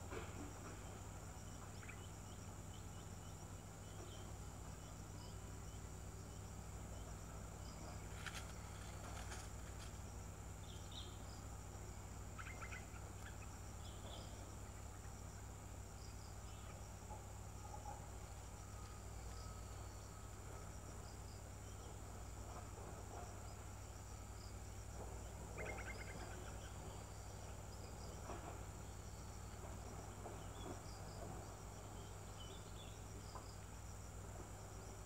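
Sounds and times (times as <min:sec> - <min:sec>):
low steady hum: 0:00.0 - 0:35.0
high-pitched insect drone: 0:01.2 - 0:30.1.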